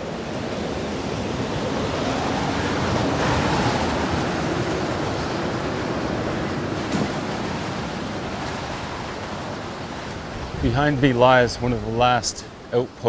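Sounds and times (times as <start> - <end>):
wind rushing: 0.0 - 12.7
sea surf: 0.0 - 13.0.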